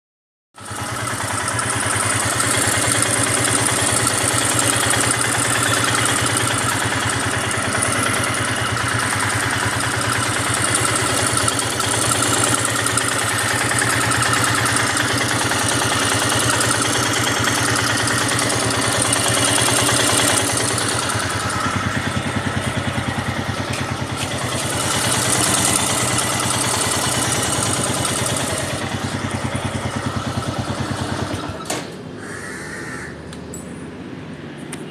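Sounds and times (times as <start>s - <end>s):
motorcycle engine idling: 0.6s - 33.7s.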